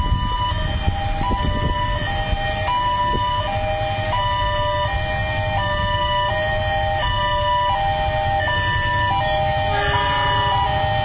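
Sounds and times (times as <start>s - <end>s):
idling road traffic rumble: 0.0s - 11.0s
level crossing alarm: 0.0s - 11.0s.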